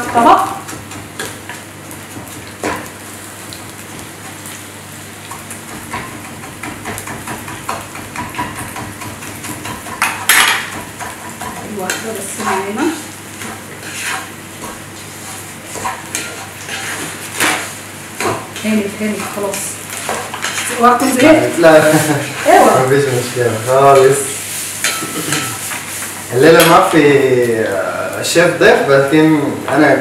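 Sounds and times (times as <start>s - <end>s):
frying sizzle in oil: 0.0s - 30.0s.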